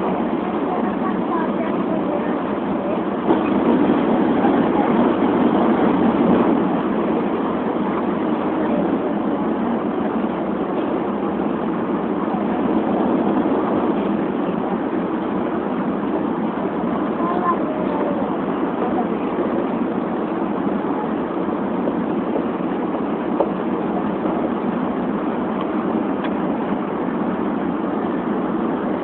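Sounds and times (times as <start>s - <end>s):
train cabin rushing noise: 0.0s - 29.0s.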